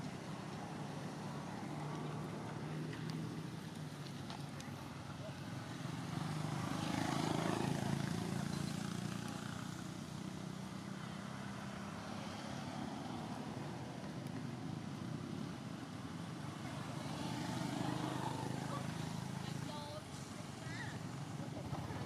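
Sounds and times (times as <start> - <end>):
motor vehicle passing: 0.0 - 22.0.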